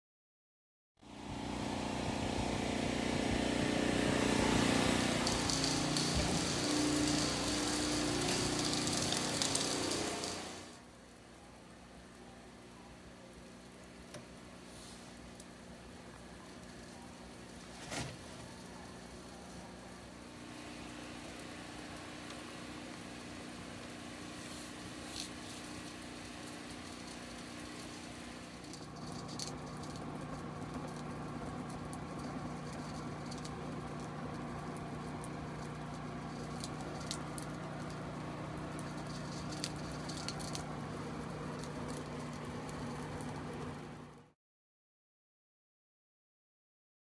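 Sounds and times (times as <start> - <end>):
insulation blower hum: 1.0 - 44.3.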